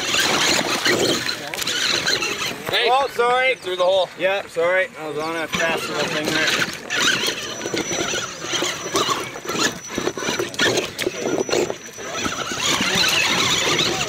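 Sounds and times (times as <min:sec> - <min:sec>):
toy car motor whining: 0:00.0 - 0:03.8, 0:05.0 - 0:14.0.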